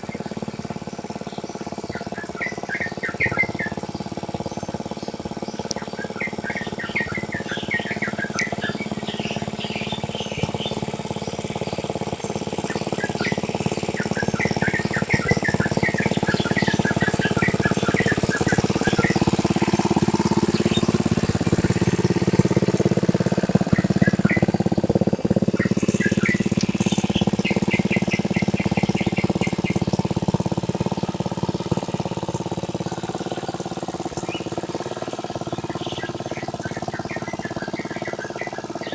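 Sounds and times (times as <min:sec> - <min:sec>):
birds chirping: 0:00.0 - 0:38.9
tractor engine running: 0:00.0 - 0:38.9.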